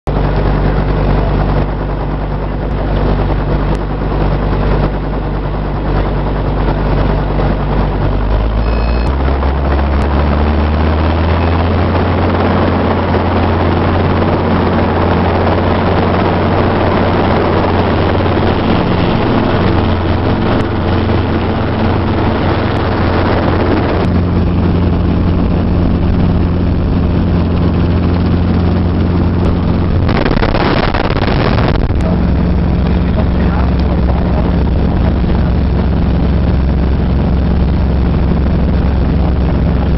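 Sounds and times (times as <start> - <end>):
helicopter engine and rotor hum: 0.1 - 39.9.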